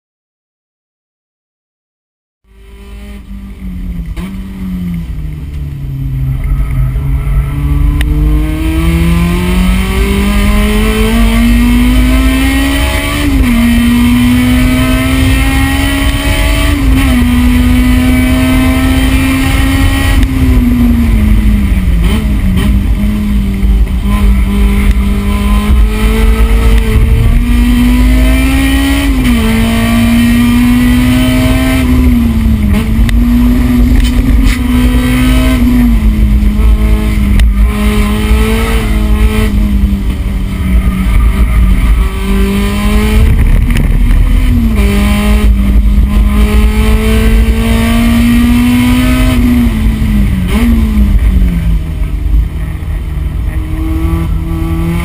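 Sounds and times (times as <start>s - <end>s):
car engine revving through gears: 2.5s - 55.0s.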